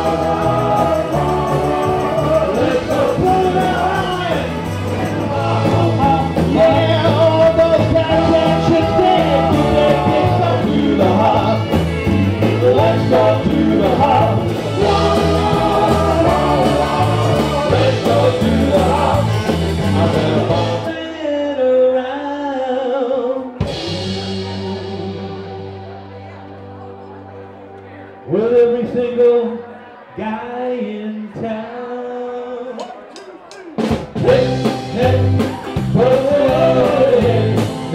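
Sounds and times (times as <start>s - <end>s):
rock band with singer: 0.0s - 37.9s.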